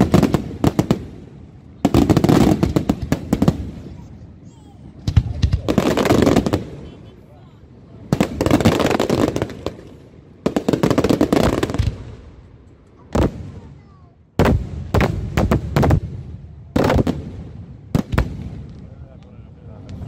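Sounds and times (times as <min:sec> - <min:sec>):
fireworks bangs and crackle: 0:00.0 - 0:07.4, 0:08.0 - 0:20.0.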